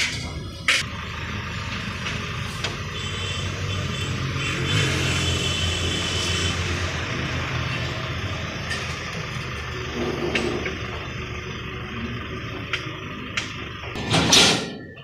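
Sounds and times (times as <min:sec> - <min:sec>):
crane diesel engine running: 0:00.0 - 0:15.0.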